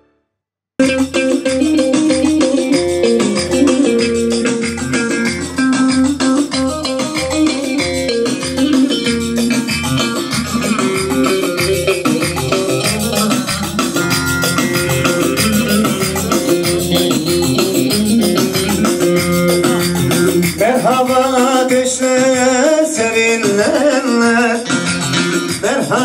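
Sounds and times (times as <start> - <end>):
wavering melody line: 0.8 - 21.6
folk dance percussion beat: 0.8 - 26.0.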